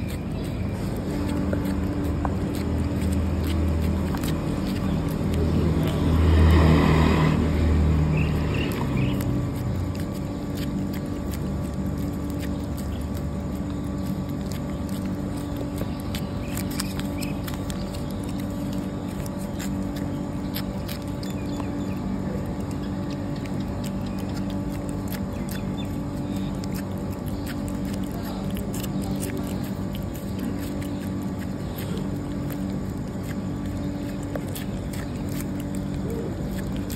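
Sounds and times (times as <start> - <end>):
cat licking wet clicks: 0.0 - 36.9
steady low hum: 0.0 - 36.9.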